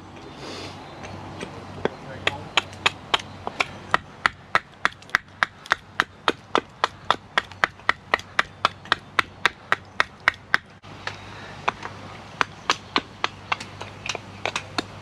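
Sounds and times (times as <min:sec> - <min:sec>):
chopping wood: 0:01.0 - 0:15.0.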